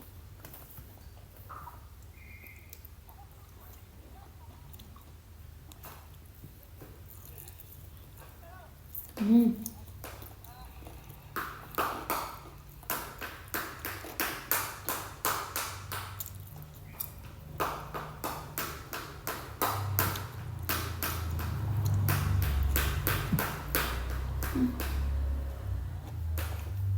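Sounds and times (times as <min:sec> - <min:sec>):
chewing fried chicken: 0:00.0 - 0:26.9.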